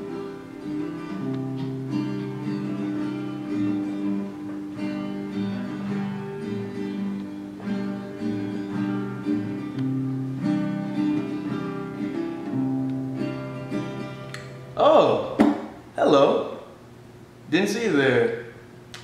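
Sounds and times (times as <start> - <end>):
acoustic guitar strummed slowly: 0.0 - 15.9.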